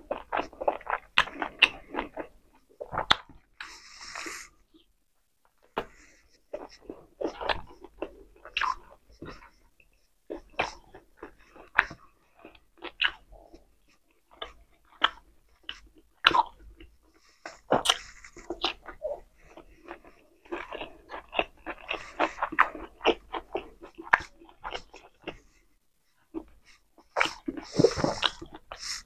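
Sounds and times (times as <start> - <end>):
person chewing food: 0.0 - 4.9, 5.5 - 29.0.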